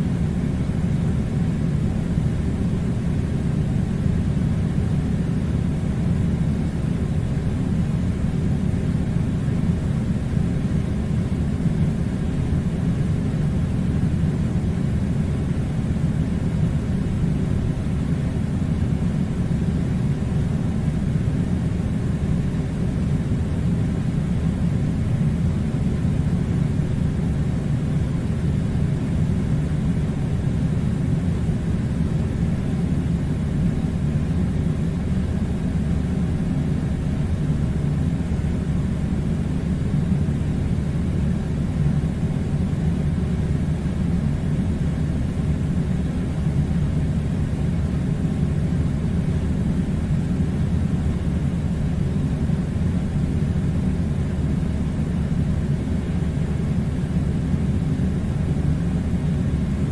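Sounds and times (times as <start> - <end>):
air conditioner running: 0.0 - 59.9.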